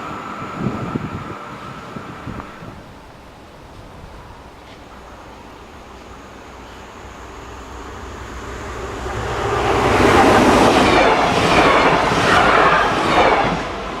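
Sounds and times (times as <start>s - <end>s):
train passing close by: 0.0s - 14.0s.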